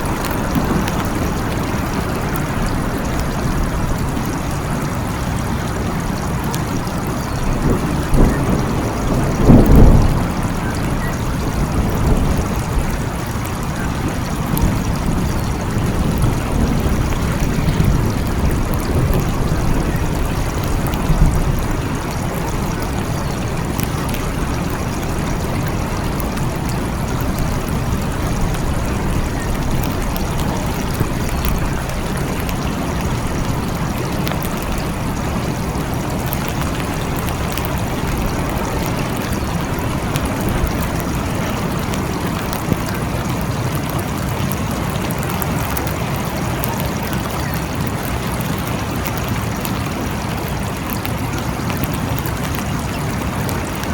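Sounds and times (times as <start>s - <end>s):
thunder rumbling: 0.0s - 49.6s
steady rain: 0.0s - 53.9s.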